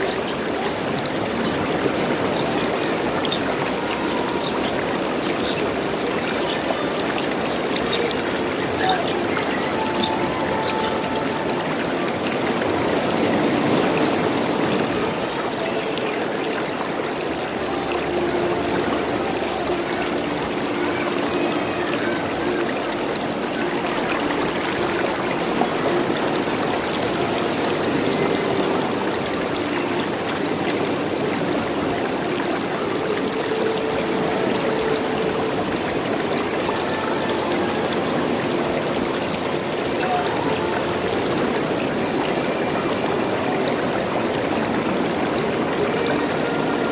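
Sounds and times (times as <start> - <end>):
water gurgling and trickling: 0.0 - 46.9.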